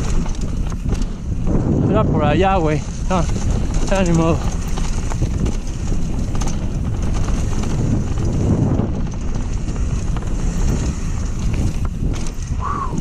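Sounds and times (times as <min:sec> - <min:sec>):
bike knocks and rattles: 0:00.0 - 0:12.6
tyres rumbling on dirt: 0:00.0 - 0:13.0
wind buffeting microphone: 0:00.0 - 0:13.0.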